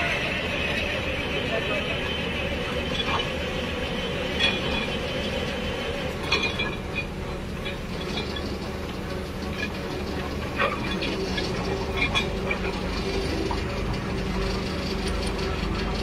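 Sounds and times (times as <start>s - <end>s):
drilling rig running: 0.0s - 16.0s.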